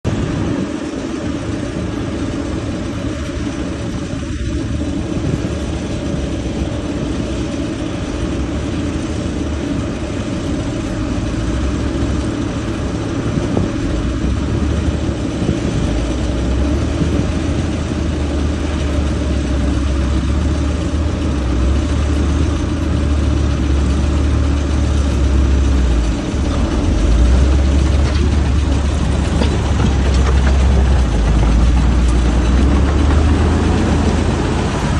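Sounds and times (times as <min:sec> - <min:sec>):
construction machine engine rumble: 0:00.1 - 0:34.9.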